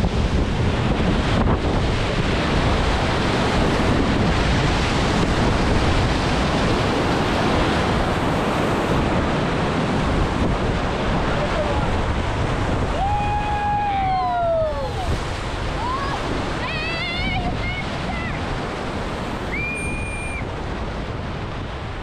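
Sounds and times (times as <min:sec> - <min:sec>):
whitewater rushing and churning: 0:00.0 - 0:22.0.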